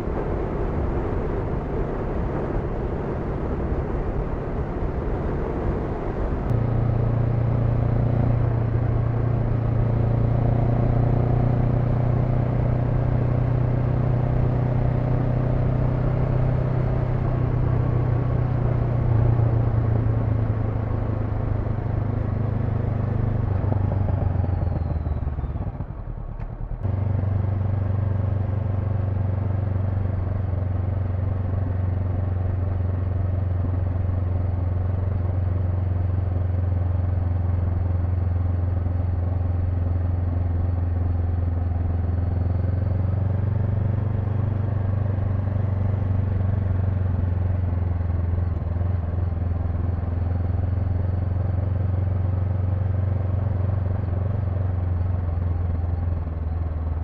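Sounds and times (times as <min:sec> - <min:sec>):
road and wind noise: 0:00.0 - 0:57.0
motorcycle engine running: 0:05.4 - 0:57.0.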